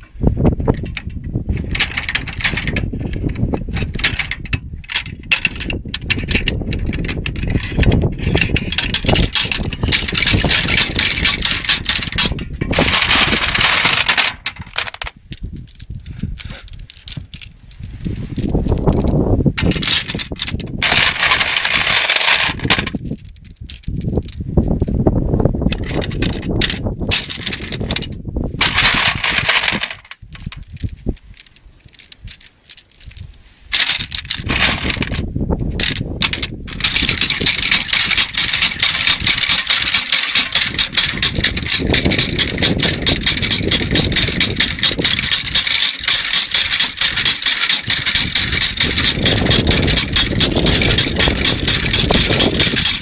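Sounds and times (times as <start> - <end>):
rapid mechanical clicking and rattling: 0.7 - 17.5, 18.2 - 25.0, 25.7 - 53.0.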